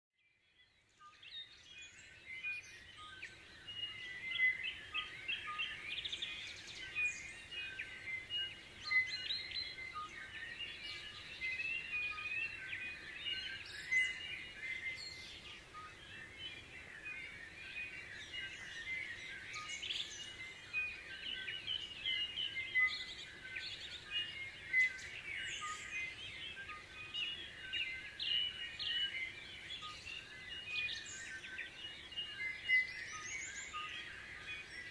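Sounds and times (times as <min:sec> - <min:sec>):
many birds singing: 0:00.2 - 0:34.9.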